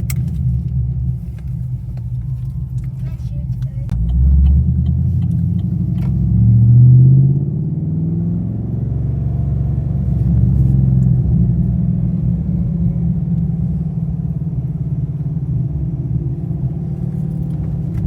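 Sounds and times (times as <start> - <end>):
car engine rumble from inside cabin: 0.0 - 18.0.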